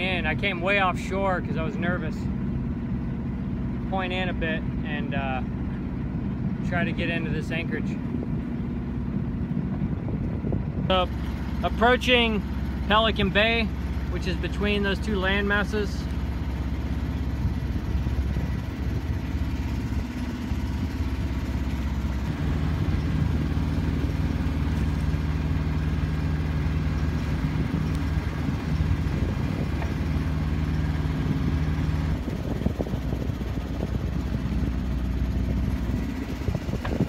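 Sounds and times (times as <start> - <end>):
boat engine running: 0.0 - 37.0.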